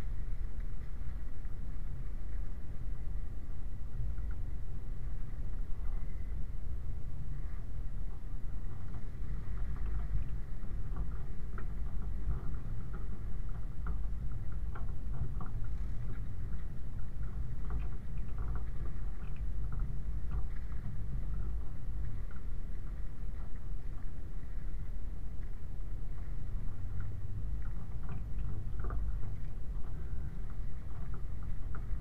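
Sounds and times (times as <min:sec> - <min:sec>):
vehicle engine rumble: 0:00.0 - 0:32.0.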